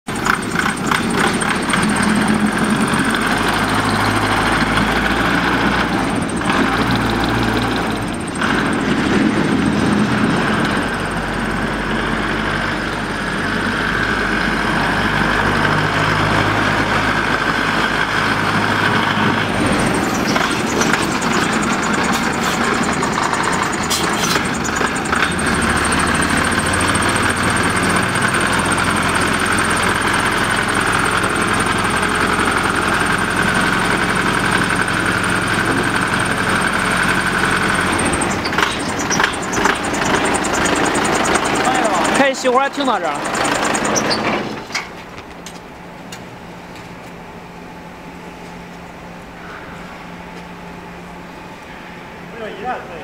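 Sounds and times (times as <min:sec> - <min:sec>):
diesel truck engine running: 0:00.1 - 0:53.0.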